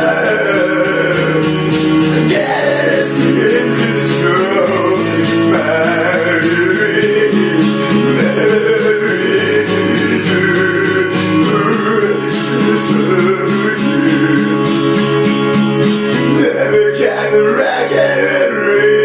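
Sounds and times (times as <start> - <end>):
rock and roll guitar music: 0.0 - 19.0.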